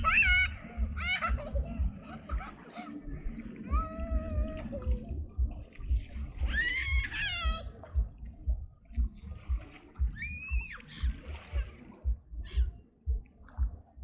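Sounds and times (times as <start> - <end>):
low thumps: 0.0 - 2.5, 3.7 - 13.9
river water splashing: 0.0 - 12.1.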